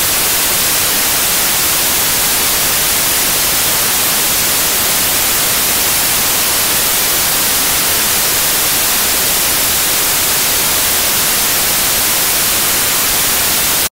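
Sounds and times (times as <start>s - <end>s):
television static hiss: 0.0s - 13.9s.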